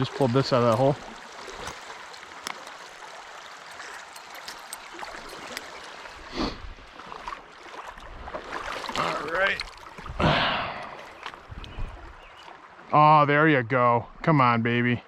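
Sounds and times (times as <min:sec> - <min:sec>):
stream water flowing: 0:00.0 - 0:14.9.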